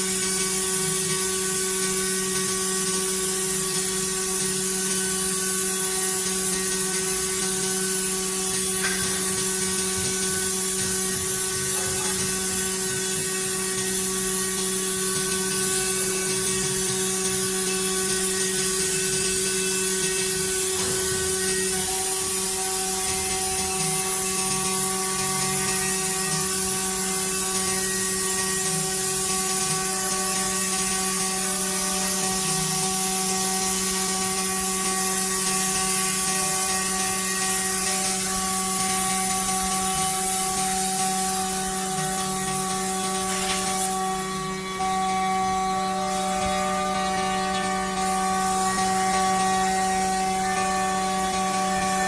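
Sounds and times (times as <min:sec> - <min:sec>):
machine hum: 0:00.0 - 0:52.0
spindle whine: 0:00.0 - 0:52.0.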